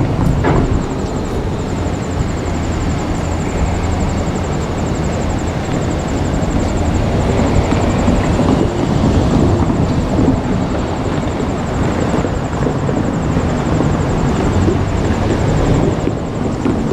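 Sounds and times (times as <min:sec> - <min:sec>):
electric train passing at speed: 0:00.0 - 0:16.9.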